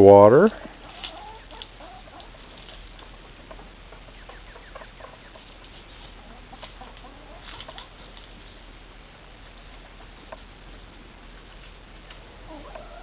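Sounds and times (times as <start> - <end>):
chickens clucking: 0.2 - 13.0.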